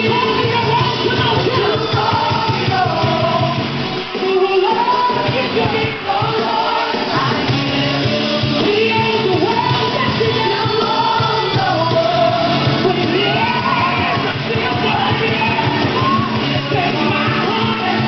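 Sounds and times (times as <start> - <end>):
gospel song with singing: 0.0 - 18.0.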